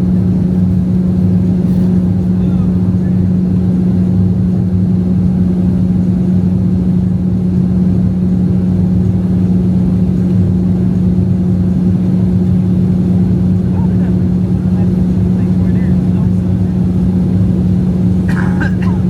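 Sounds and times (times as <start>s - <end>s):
aircraft cabin engine drone: 0.0s - 19.0s.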